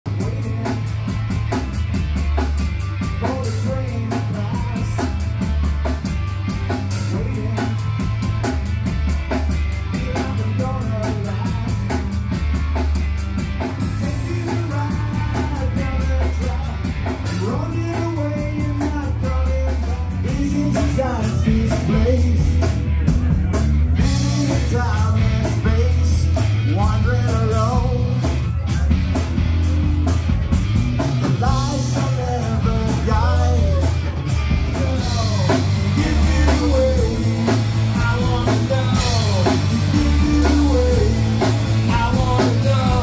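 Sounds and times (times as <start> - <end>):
man singing: 0.0 - 1.4, 3.0 - 5.6, 6.8 - 8.5, 9.7 - 12.3, 13.8 - 29.0, 31.2 - 43.0
bass: 0.0 - 43.0
drum kit beat: 0.1 - 43.0
electric guitar: 0.1 - 43.0.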